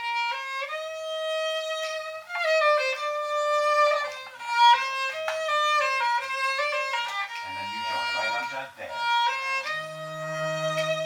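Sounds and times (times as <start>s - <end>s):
solo instrument melody in held notes: 0.0s - 11.0s.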